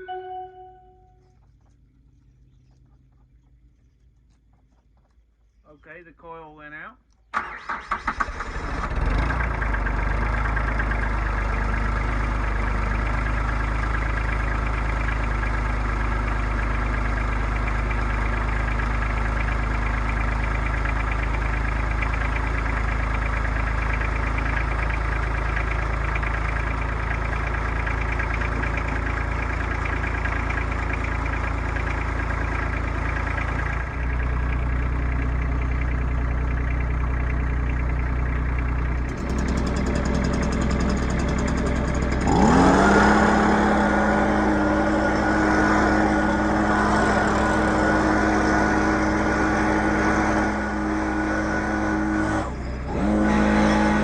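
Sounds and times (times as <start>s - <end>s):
diesel engine starting and idling: 7.2s - 54.0s.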